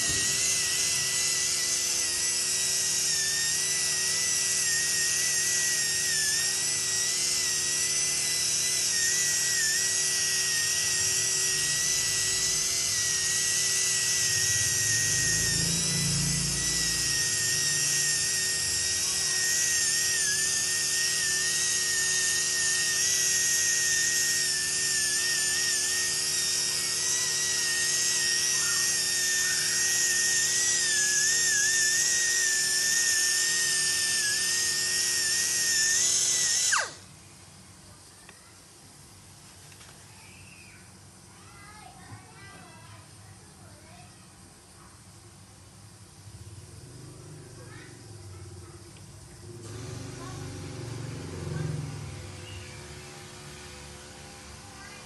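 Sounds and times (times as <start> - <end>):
polishing handpiece whine: 0.0 - 37.0, 46.7 - 55.0.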